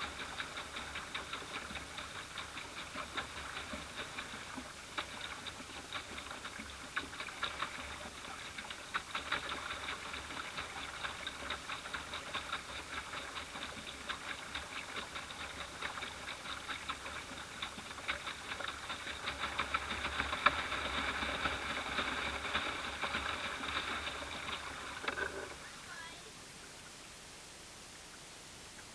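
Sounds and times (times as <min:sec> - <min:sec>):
small waves lapping against hull: 0:00.0 - 0:27.2.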